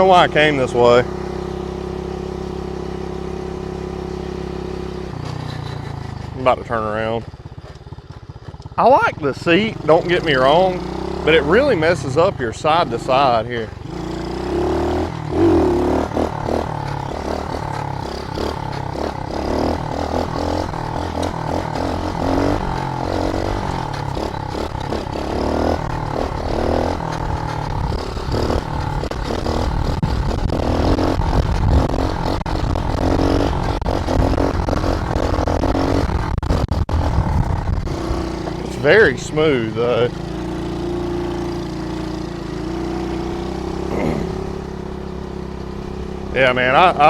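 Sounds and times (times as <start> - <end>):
small motorbike engine revving: 0.0 - 47.0.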